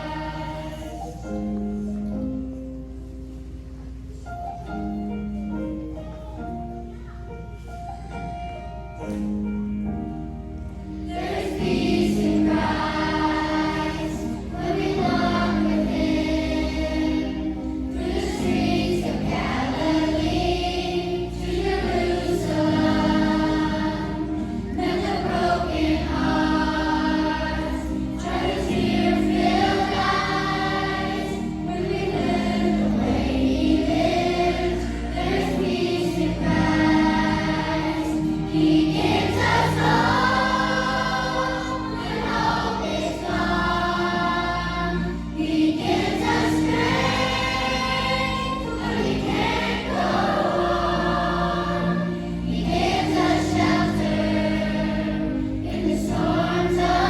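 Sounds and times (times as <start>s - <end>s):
choir singing: 0.0s - 2.6s, 11.0s - 57.0s.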